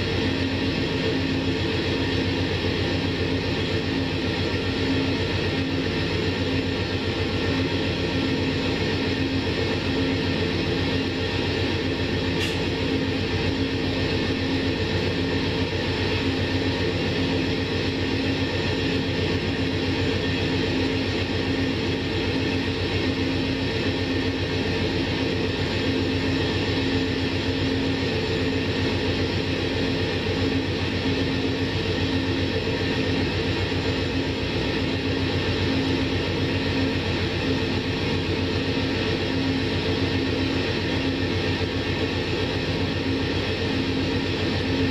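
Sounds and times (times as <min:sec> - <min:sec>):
locomotive engine idling: 0:00.0 - 0:44.9.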